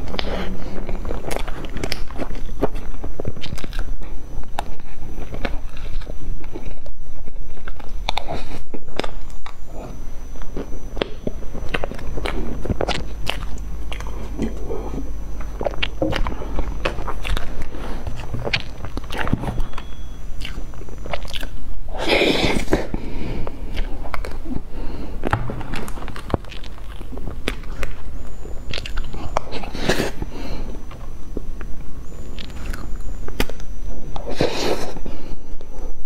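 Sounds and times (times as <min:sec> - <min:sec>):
wet chewing and smacking: 0:00.0 - 0:35.0.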